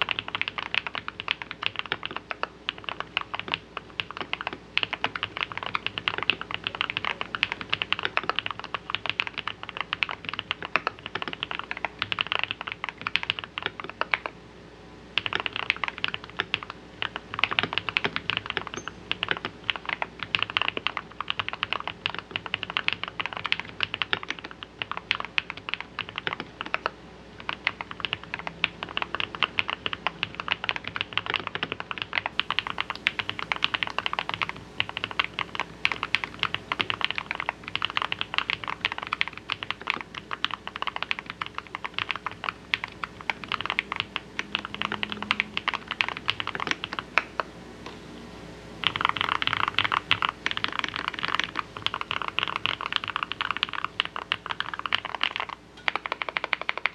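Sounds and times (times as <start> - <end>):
typing on mechanical keyboard: 0.0 - 14.3, 15.2 - 47.4, 48.8 - 56.9.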